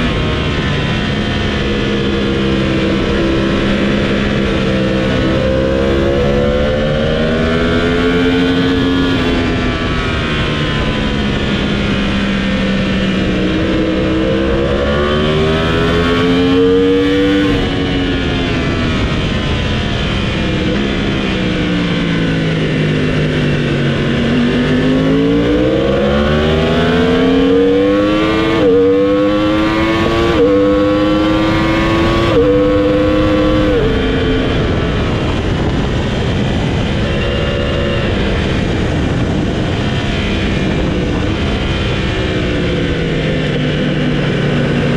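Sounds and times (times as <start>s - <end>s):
motorcycle engine revving: 0.0s - 44.9s
wind rush: 0.0s - 44.9s.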